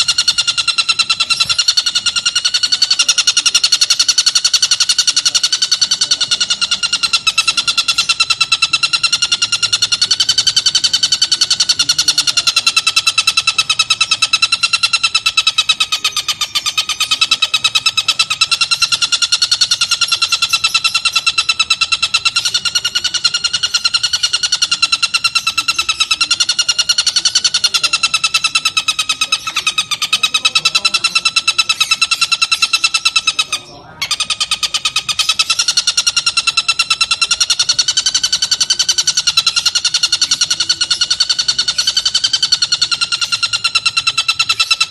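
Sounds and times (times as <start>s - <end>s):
bird rattling trill: 0.0s - 44.9s.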